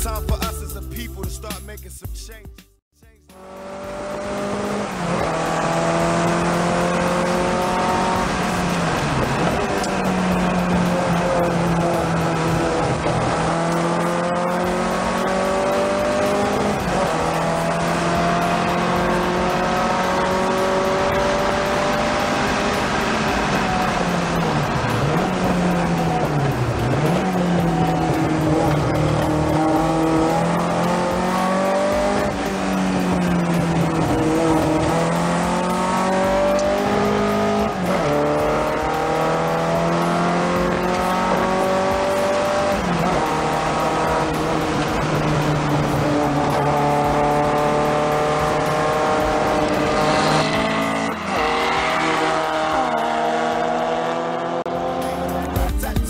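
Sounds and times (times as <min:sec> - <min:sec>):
car engine accelerating hard: 0:03.3 - 0:55.6.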